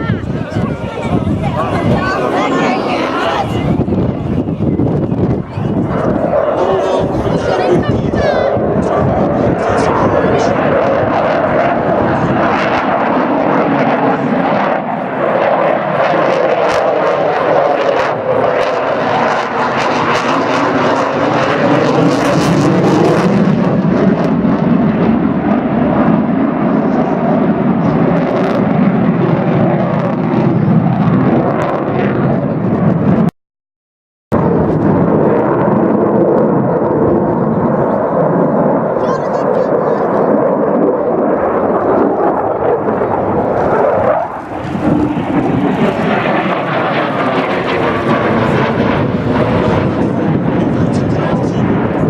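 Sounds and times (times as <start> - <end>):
fighter jet engine roar: 0.0 - 33.3, 34.3 - 52.0.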